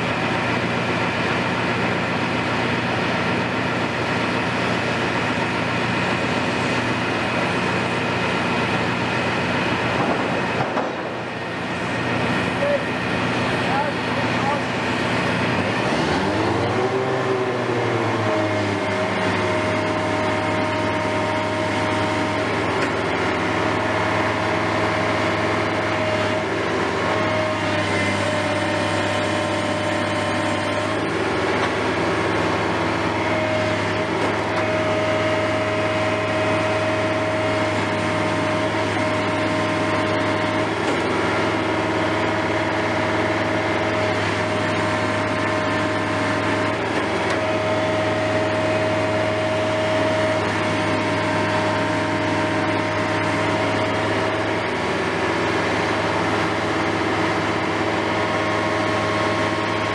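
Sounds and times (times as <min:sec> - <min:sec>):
heavy machinery engine droning: 0:00.0 - 0:59.9.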